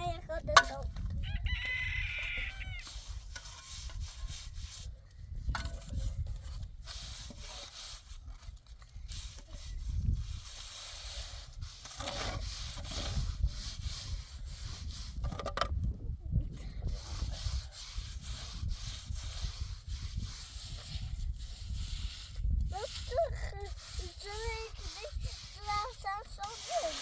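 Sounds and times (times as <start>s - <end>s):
hand scraping a hard surface: 1.9s - 27.0s.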